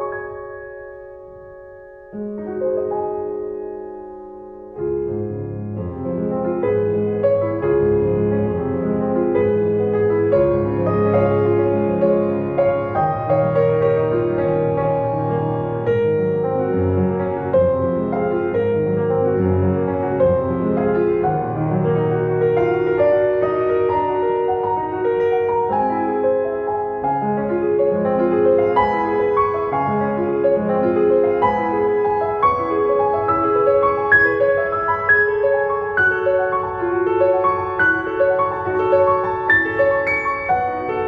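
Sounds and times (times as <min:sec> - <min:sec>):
slow piano music: 0:00.0 - 0:41.0.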